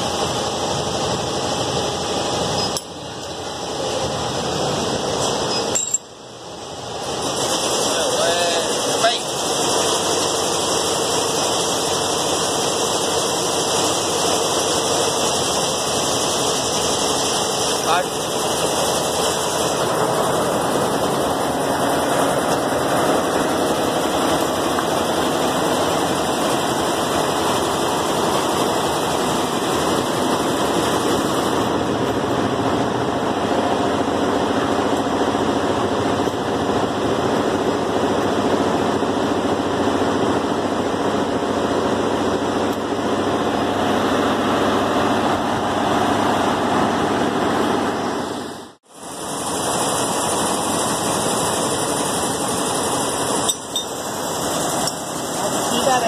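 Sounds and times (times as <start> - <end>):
machine running noise: 0.0 - 56.0.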